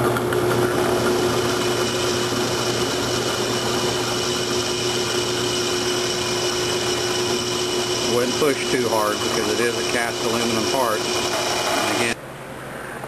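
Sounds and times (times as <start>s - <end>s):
electric drill boring through metal: 0.0s - 12.2s.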